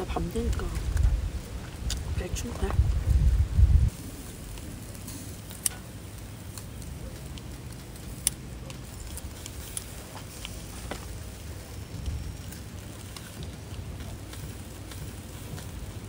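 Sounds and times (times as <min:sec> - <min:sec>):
fire crackling: 0:00.0 - 0:16.0
low rumble: 0:00.0 - 0:16.0.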